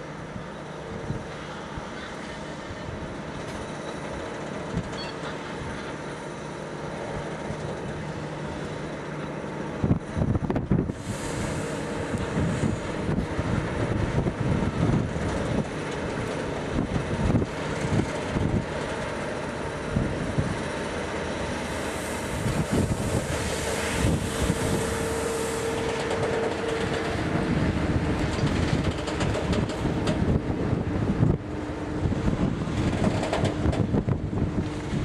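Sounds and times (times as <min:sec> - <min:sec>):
diesel locomotive engines running: 0:00.0 - 0:35.0
train wheels rolling: 0:01.2 - 0:35.0.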